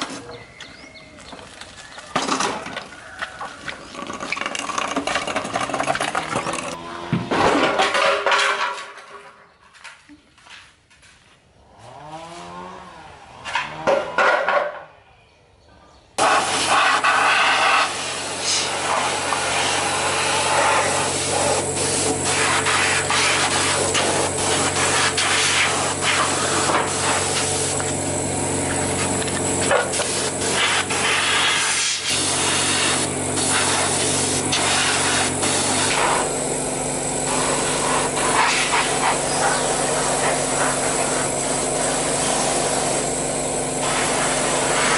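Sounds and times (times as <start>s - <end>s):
power tool grinding: 1.5s - 8.7s, 11.6s - 14.5s, 16.2s - 44.9s.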